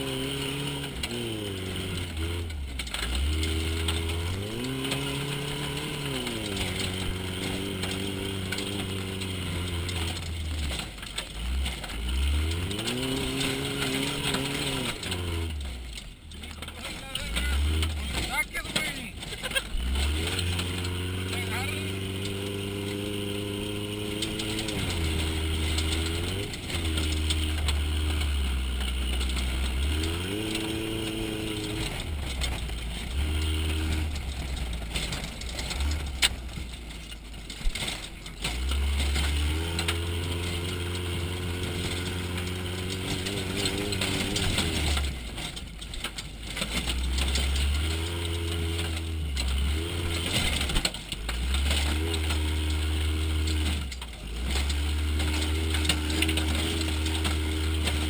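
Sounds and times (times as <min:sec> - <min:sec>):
truck body rattling: 0:00.0 - 0:58.0
truck engine revving: 0:00.0 - 0:58.0.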